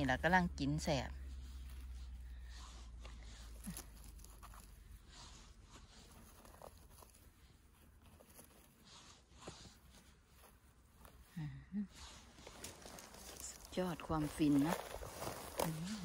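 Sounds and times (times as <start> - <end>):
faint rustling of forest litter: 0.0 - 16.0.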